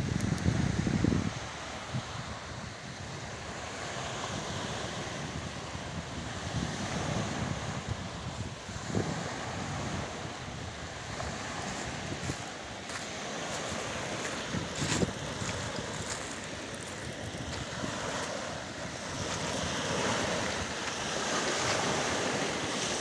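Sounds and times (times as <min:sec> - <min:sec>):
rushing water: 0:00.0 - 0:23.0
wind gusting on microphone: 0:00.0 - 0:23.0.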